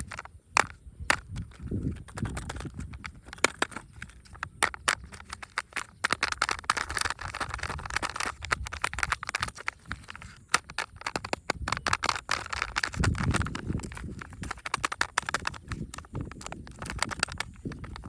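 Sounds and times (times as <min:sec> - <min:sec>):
crinkly packaging rustling: 0:00.0 - 0:18.0
plastic clicks and taps: 0:00.0 - 0:18.0.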